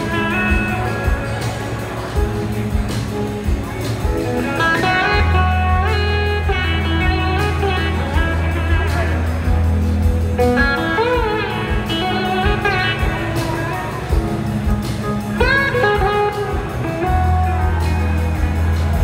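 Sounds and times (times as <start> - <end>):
bass guitar: 0.0 - 19.0
drums: 0.0 - 19.0
slide guitar lead: 0.0 - 19.0.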